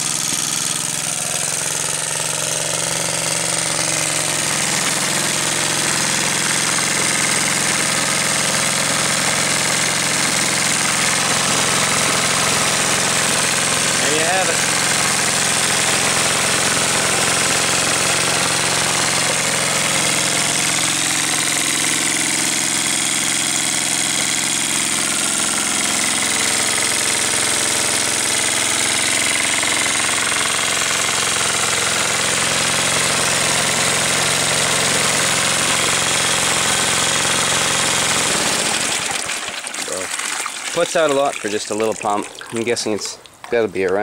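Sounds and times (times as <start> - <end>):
small gas engine running: 0.0 - 43.4
water gushing into tub: 0.1 - 44.0.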